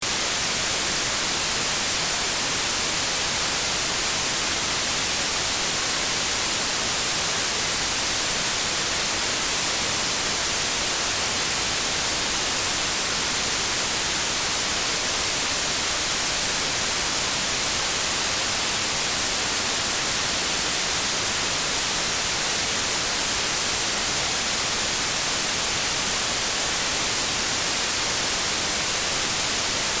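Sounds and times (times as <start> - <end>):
steady white noise hiss: 0.0 - 30.0.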